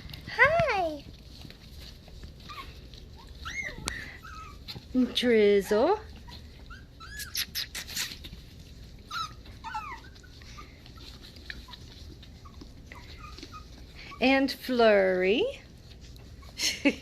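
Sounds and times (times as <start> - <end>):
puppies squeaking and whimpering: 0.5 - 15.0, 15.6 - 16.8.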